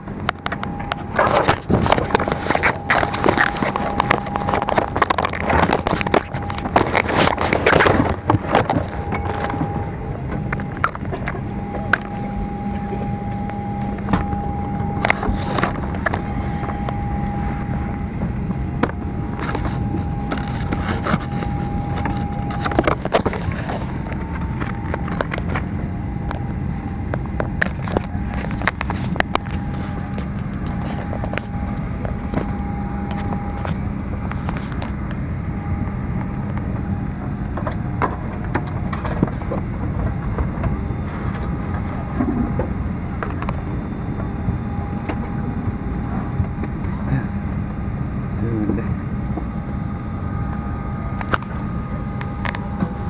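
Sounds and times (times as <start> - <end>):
airliner cabin ventilation noise: 0.0 - 53.0
constant whine: 0.0 - 53.0
low hum: 0.0 - 53.0.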